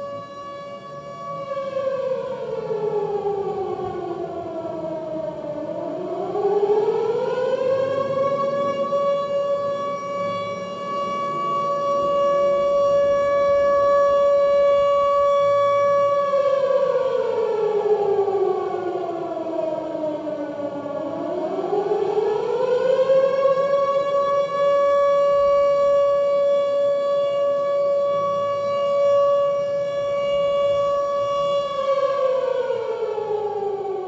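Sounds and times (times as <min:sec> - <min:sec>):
siren wailing: 0:00.0 - 0:34.0.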